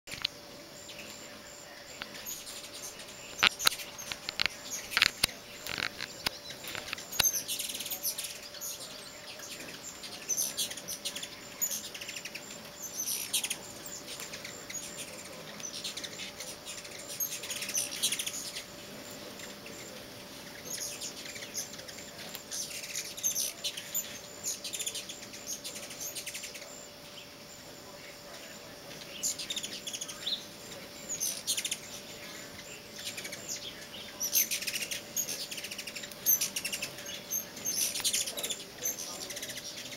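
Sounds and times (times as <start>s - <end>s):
hummingbirds chattering and chipping: 0.1s - 39.9s.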